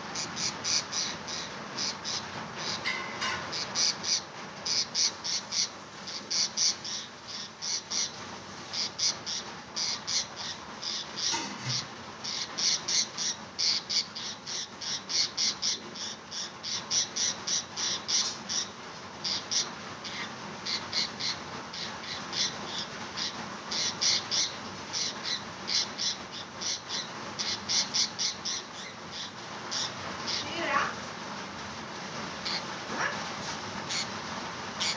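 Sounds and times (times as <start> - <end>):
parrot squawking: 0.1 - 31.1, 32.4 - 34.2.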